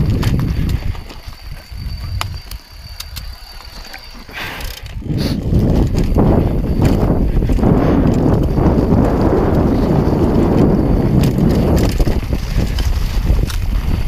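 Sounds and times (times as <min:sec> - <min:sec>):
wind rush: 0:00.0 - 0:03.0, 0:04.9 - 0:14.0
bike rattles and clicks: 0:00.0 - 0:14.0
tyres rumbling on dirt: 0:00.0 - 0:14.0.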